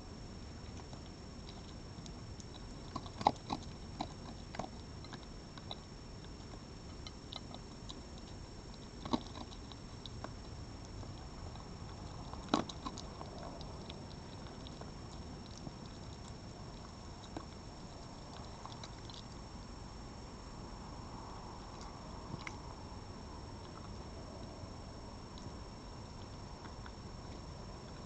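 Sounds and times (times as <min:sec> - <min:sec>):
animal eating with small crunches: 0:00.0 - 0:28.0
steady background hiss: 0:00.0 - 0:28.0.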